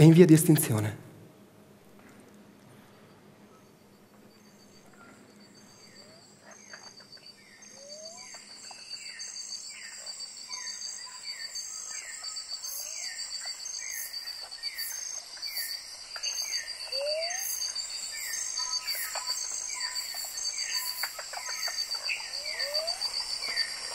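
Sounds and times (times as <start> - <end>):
high insect trill: 2.9 - 23.9.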